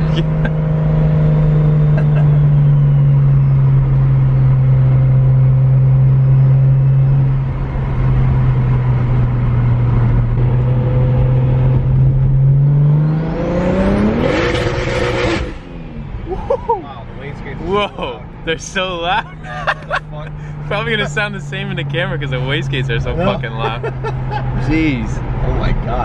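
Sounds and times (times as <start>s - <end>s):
car exhaust drone: 0.0s - 25.9s
car engine revving: 0.0s - 26.0s.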